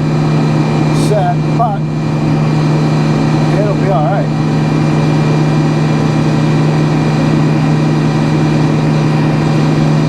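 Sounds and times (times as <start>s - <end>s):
sawmill engine humming: 0.0s - 10.0s.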